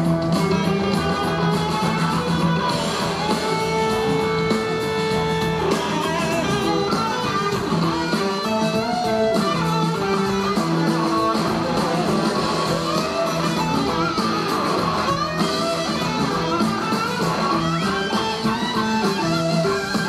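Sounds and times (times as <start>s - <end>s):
bass guitar: 0.0s - 20.0s
drums: 0.0s - 20.0s
electric guitars playing lead lines: 0.0s - 20.0s.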